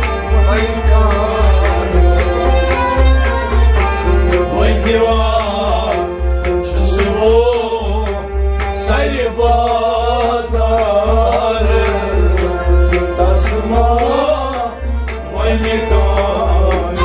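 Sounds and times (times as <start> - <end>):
man singing devotional song: 0.0 - 2.8, 4.3 - 17.0
harmonium: 0.0 - 17.0.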